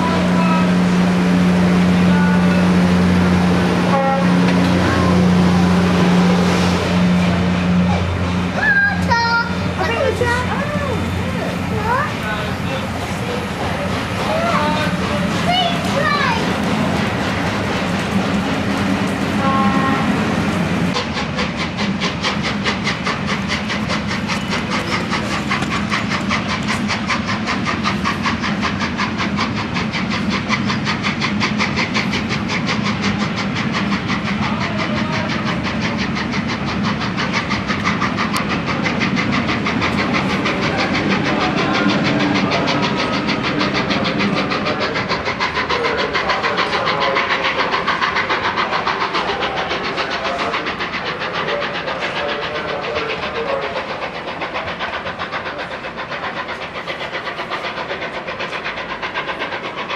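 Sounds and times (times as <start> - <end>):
rail clatter: 0.0 - 59.9
steam hiss: 0.0 - 59.9
steam locomotive rhythmic beat: 0.0 - 59.9.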